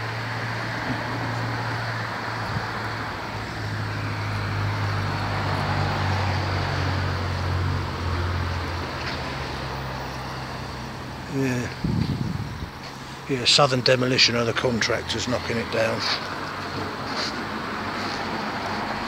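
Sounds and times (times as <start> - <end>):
vehicle passing close by: 0.0 - 13.4, 14.5 - 19.0
road traffic hum: 0.0 - 19.0.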